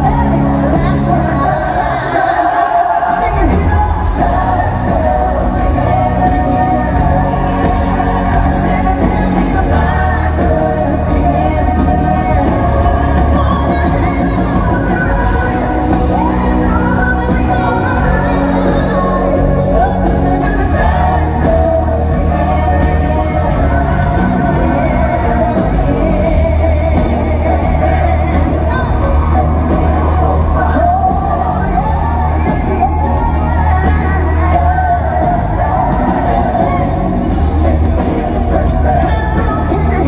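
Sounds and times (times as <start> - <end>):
heavy bass: 0.0 - 2.3, 3.1 - 40.0
live pop-country band: 0.0 - 40.0
woman singing lead: 0.0 - 40.0.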